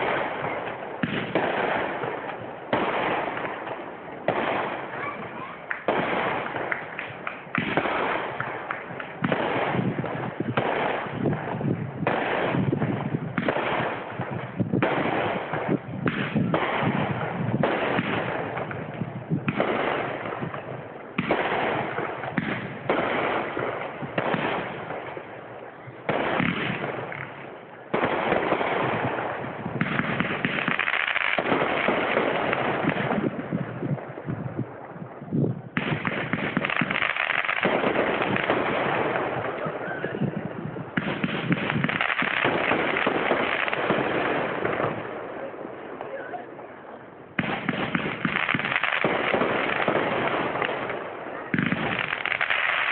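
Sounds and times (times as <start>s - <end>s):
fireworks bangs and bursts: 0.0s - 52.9s.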